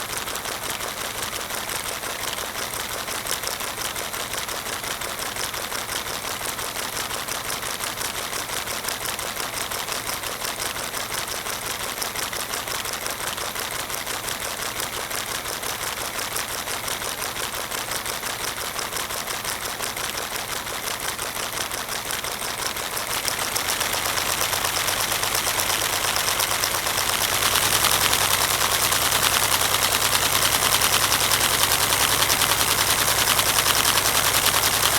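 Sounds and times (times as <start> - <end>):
toy engine clattering: 0.0 - 34.9.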